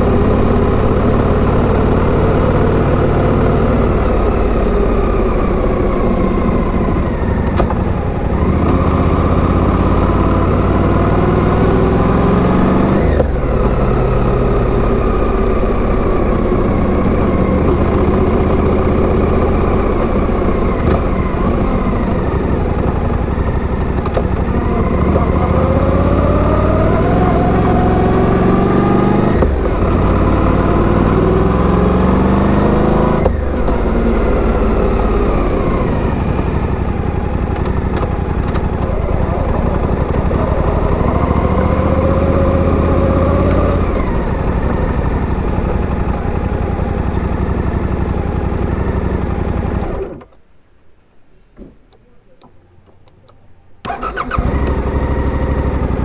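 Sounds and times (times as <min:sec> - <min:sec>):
motorcycle engine running: 0:00.0 - 0:50.2, 0:53.9 - 0:56.0.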